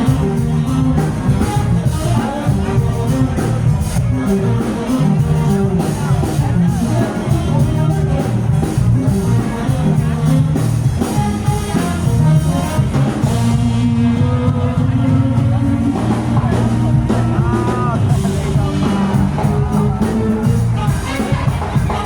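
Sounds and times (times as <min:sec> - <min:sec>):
drums keeping steady beat: 0:00.0 - 0:22.0
live rock band playing: 0:00.0 - 0:22.0.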